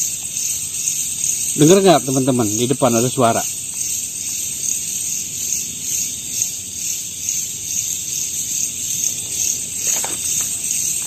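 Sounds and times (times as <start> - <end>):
low background hiss: 0.0 - 11.0
night insects chorus: 0.0 - 11.0.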